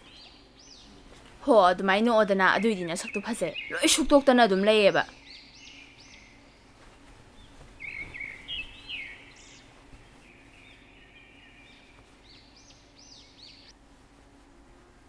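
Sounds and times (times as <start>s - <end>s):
small birds chirping: 0.0s - 13.8s
faint steady hum: 0.0s - 15.0s.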